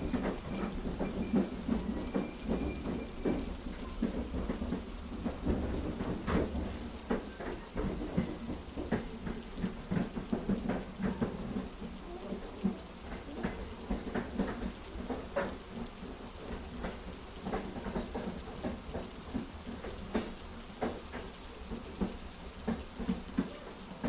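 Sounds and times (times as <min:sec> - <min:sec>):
heavy rain falling: 0:00.0 - 0:24.0
sharp taps of raindrops: 0:00.0 - 0:24.0.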